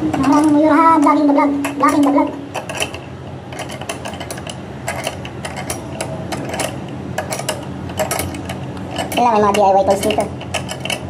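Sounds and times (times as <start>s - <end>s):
small metal parts clicking: 0.1s - 11.0s.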